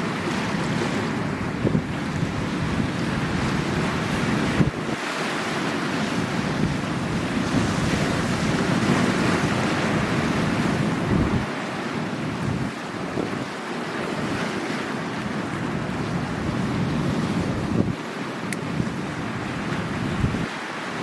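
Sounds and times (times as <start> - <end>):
sea waves washing ashore: 0.0 - 21.0
wind buffeting microphone: 0.2 - 14.6, 15.3 - 20.6.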